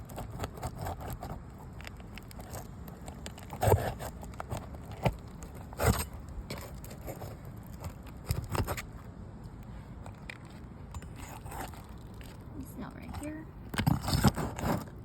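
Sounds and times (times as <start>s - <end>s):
tool scraping under shingles: 0.0s - 9.1s, 9.7s - 15.0s.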